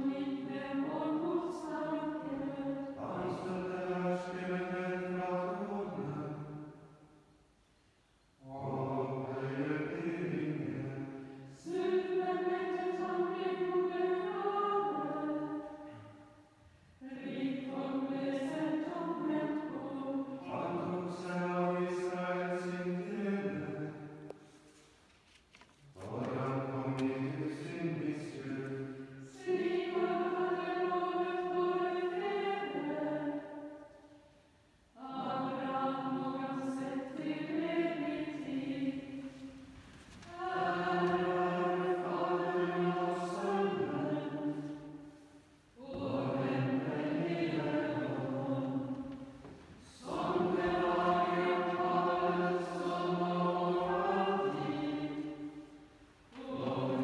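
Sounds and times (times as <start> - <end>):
choir chanting: 0.0 - 6.8, 8.4 - 16.2, 17.0 - 24.3, 26.0 - 34.1, 35.0 - 57.0.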